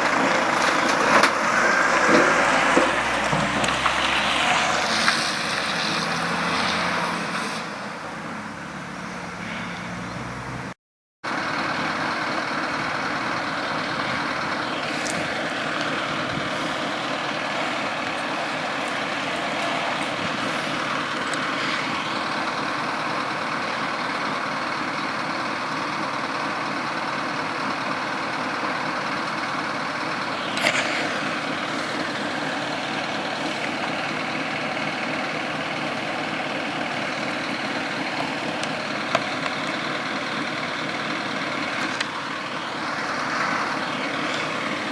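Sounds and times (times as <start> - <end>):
heavy trucks and road traffic: 0.0 - 44.9.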